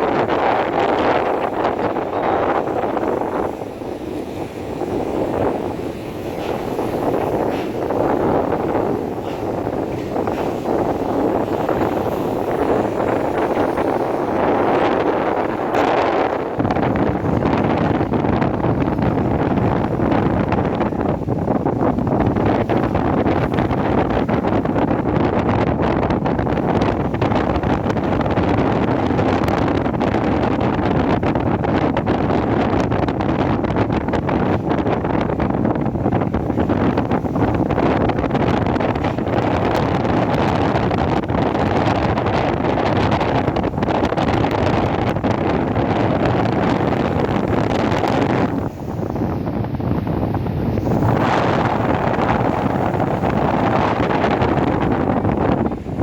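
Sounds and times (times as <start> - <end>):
train running noise: 0.0 - 56.0
wind buffeting microphone: 0.0 - 56.0.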